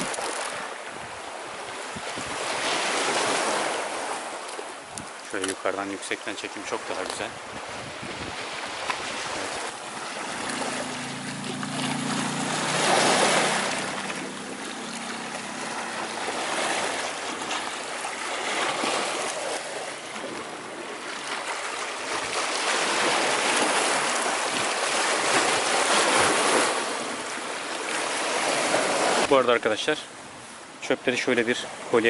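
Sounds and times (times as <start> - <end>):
surf washing over pebbles: 0.0 - 29.9.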